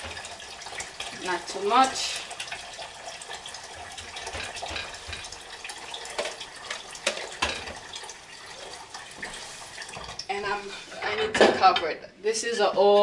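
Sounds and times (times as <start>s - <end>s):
steady watery hiss: 0.0s - 11.0s.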